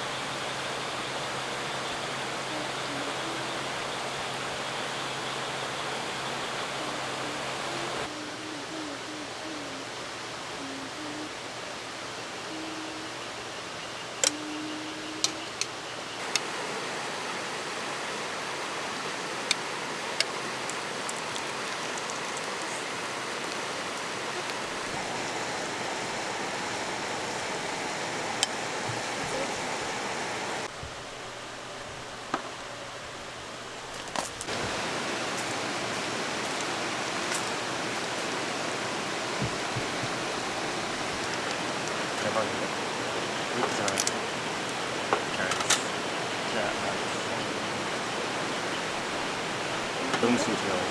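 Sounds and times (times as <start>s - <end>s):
mountain stream rushing: 0.0s - 8.2s, 16.2s - 50.9s.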